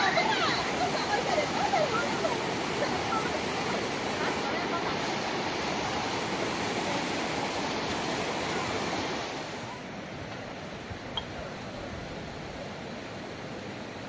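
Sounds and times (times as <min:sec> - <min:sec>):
flowing river water: 0:00.0 - 0:14.0.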